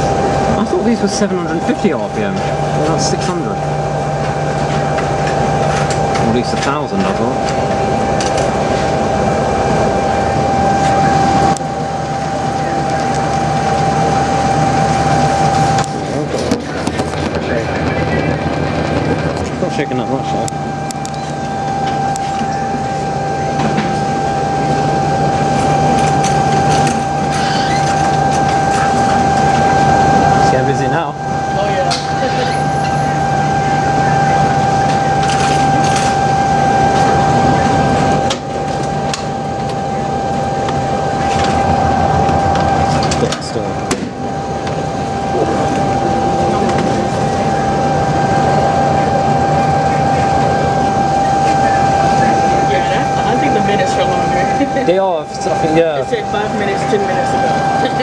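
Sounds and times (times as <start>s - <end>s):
high motor whine: 0.0s - 58.0s
washer drum rumble: 0.0s - 58.0s.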